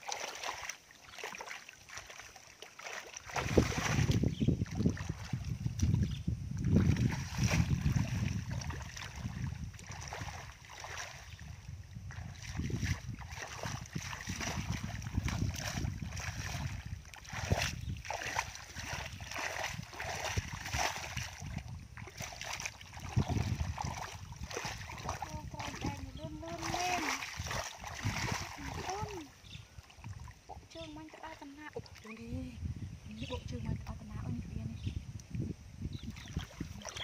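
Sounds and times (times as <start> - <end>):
feet squelching through muddy water: 0.0 - 32.5, 36.0 - 37.0
wind on microphone: 3.2 - 37.0.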